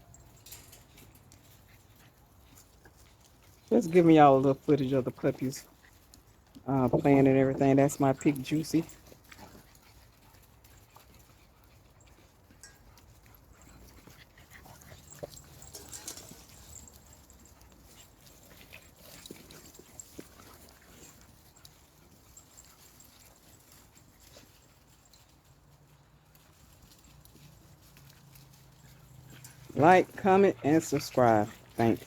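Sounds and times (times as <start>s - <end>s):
puppies scuffling: 0.0s - 32.0s.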